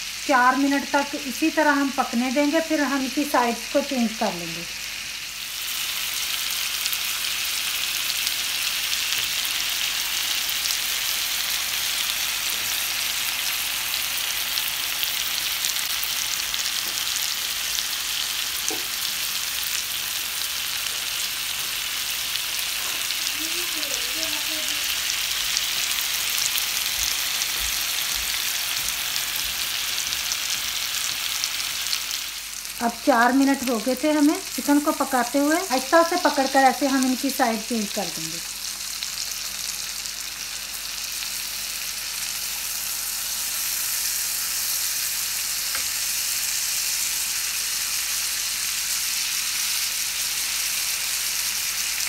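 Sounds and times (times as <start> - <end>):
chicken sizzling in a frying pan: 0.0 - 52.0.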